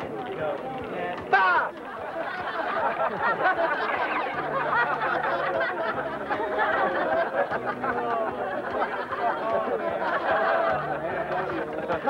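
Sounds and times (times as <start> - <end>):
many voices chattering: 0.0 - 12.0.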